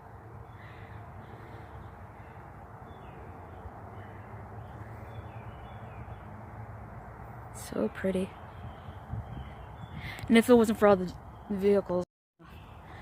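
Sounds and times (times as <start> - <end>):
distant bird calls: 0.0 - 13.0
distant road traffic rumble: 0.0 - 13.0.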